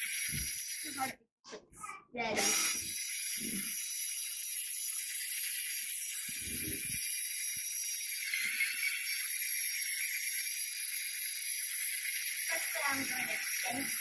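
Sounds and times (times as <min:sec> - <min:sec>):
electric drill running: 0:02.4 - 0:14.0.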